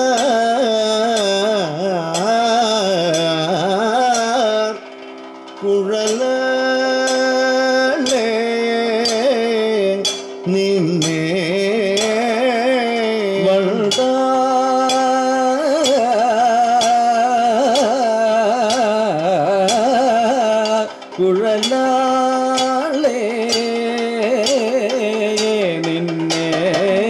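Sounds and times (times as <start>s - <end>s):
hand gong and cymbal strikes: 0.0s - 27.0s
person singing ornamented melody: 0.0s - 27.0s.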